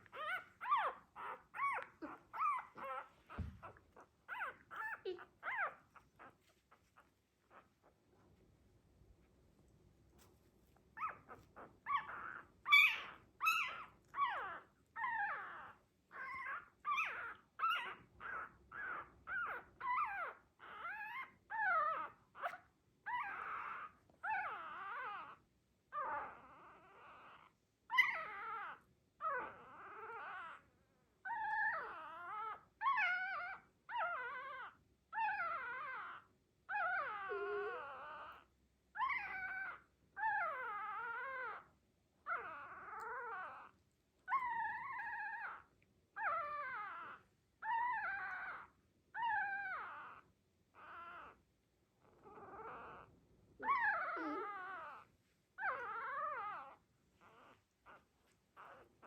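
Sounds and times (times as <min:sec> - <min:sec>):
puppy whimpering and yelping: 0:00.0 - 0:08.1, 0:10.2 - 0:59.0.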